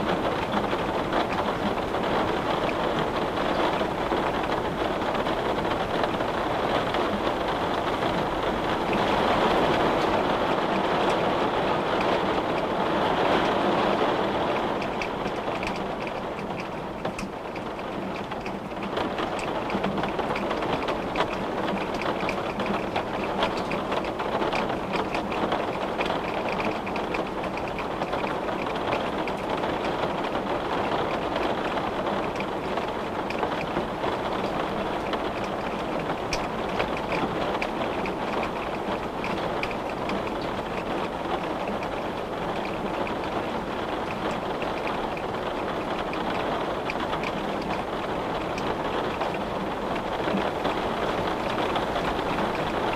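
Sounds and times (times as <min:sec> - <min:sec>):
rain on a window: 0:00.0 - 0:52.9.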